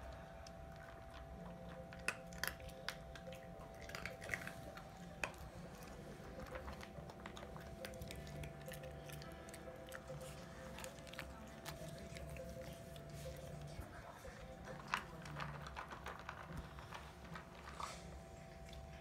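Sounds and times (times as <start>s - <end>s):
dog crunching dry kibble: 0.0s - 19.0s.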